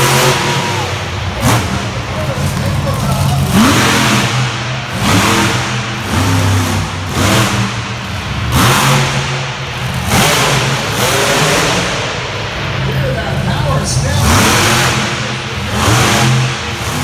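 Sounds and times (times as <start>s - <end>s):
truck engine revving hard: 0.0s - 17.0s.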